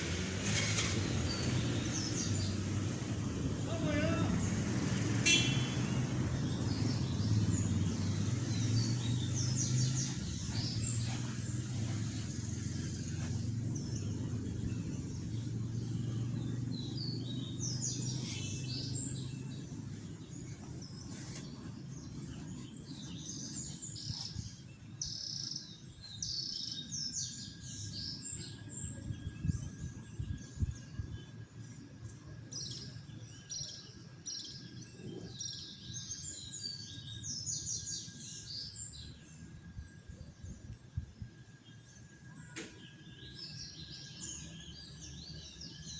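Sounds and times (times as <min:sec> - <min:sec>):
small birds chirping: 0:00.1 - 0:45.9.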